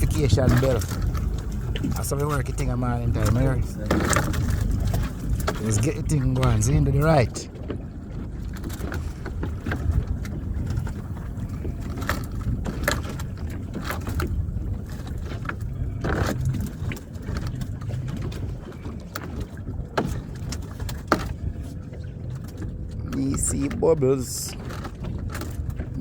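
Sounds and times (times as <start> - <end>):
boat engine rumble: 0.0 - 26.0
knocks and clatters on board: 0.1 - 2.5, 3.1 - 6.6, 7.6 - 22.7.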